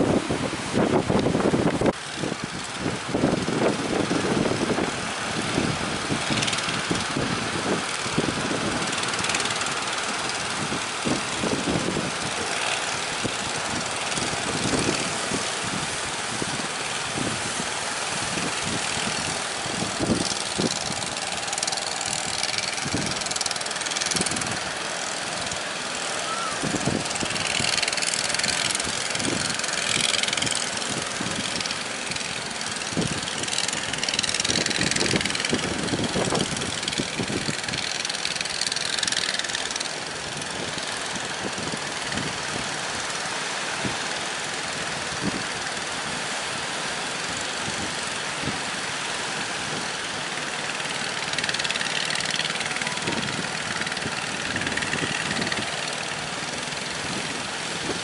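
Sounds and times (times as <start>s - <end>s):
boat engine running: 0.0s - 58.0s
hissing spray: 0.0s - 58.0s
wind and water rushing: 0.0s - 58.0s.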